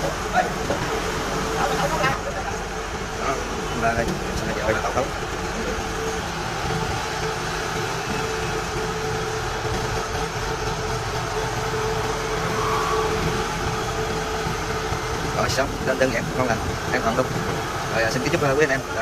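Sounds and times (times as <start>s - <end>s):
diesel engine running: 0.0s - 19.0s
steady whine: 0.0s - 19.0s.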